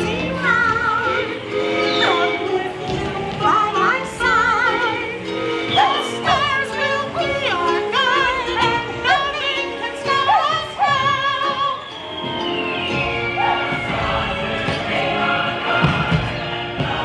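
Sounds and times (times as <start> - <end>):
operatic singing with vibrato: 0.0 - 17.0.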